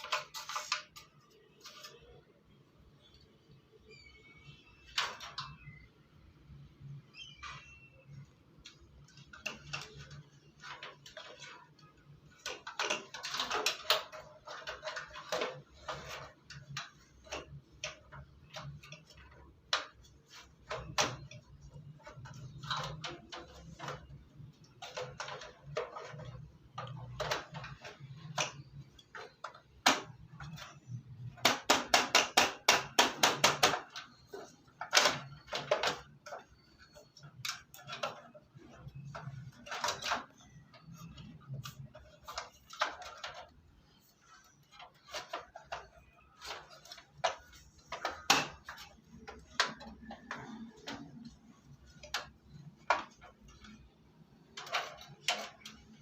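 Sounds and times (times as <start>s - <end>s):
computer parts clicking and tapping: 0.0s - 56.0s.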